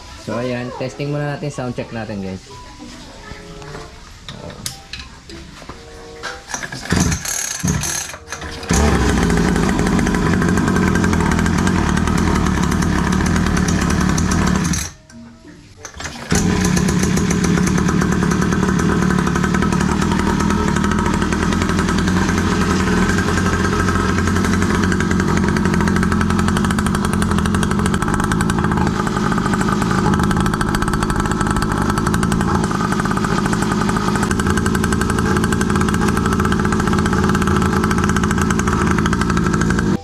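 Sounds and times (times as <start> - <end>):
two-stroke engine buzzing: 6.5 - 15.0, 15.8 - 40.0.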